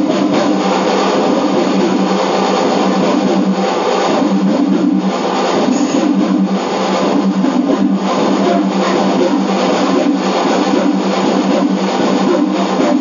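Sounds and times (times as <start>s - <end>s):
moving train running noise: 0.0s - 13.0s.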